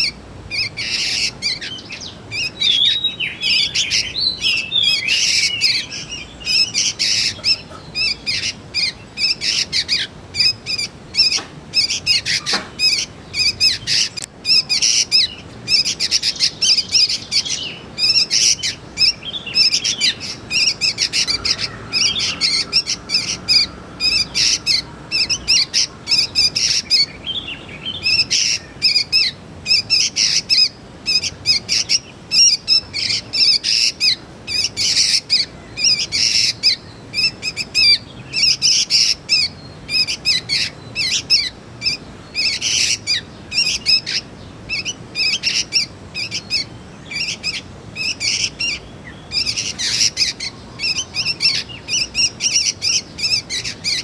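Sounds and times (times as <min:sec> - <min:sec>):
bird chirping rapidly: 0:00.0 - 0:54.0.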